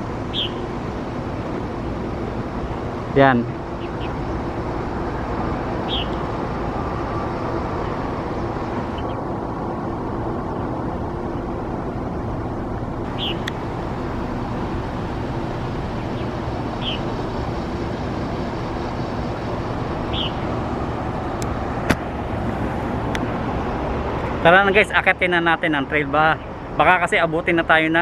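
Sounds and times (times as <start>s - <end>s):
road traffic hum: 0.0s - 28.0s.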